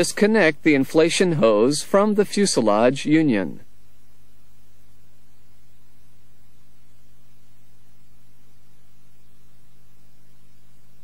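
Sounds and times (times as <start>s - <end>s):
even hiss: 0.0s - 11.0s
low electrical hum: 0.0s - 11.0s.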